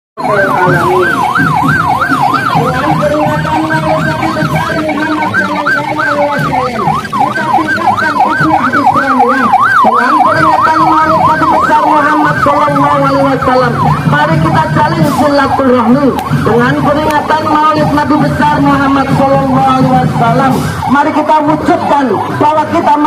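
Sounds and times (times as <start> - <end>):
electronic yelp siren: 0.2 - 23.0.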